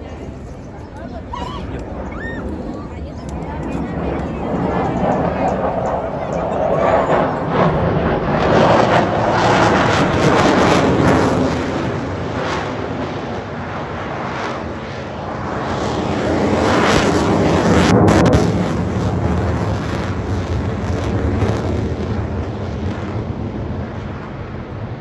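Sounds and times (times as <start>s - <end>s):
fighter jet engine rushing: 0.0s - 25.0s.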